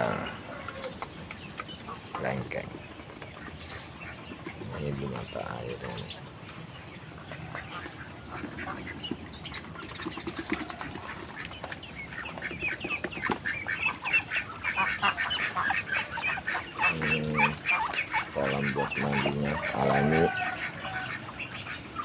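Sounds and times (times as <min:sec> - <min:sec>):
ducks calling: 0:00.0 - 0:22.0.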